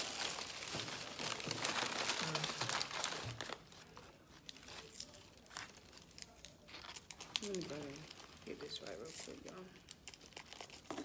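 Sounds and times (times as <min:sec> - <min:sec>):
food wrapping crinkling: 0:00.0 - 0:11.0.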